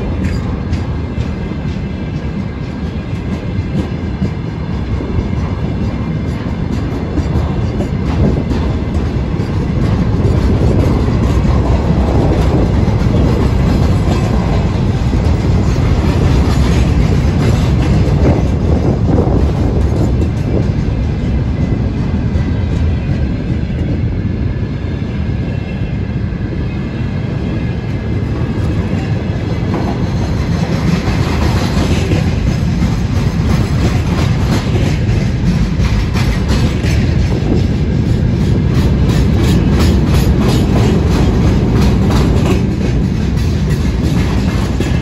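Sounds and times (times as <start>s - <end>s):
wheels clacking over rail joints: 0.0s - 23.8s, 28.2s - 45.0s
steel wheels rumbling on rails: 0.0s - 45.0s.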